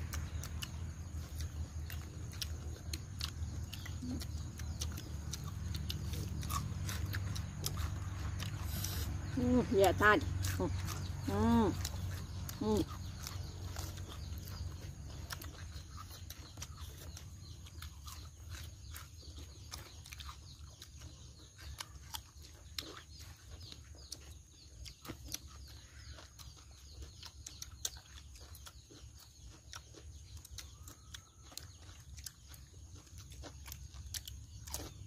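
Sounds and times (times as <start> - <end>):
chewing and lip-smacking: 0.0 - 35.0.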